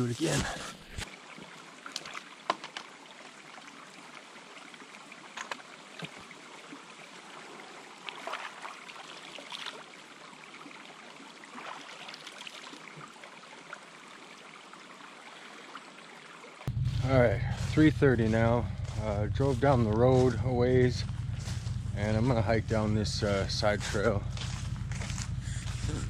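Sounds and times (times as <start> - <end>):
creek running over rock: 0.0 - 16.7, 17.6 - 26.0.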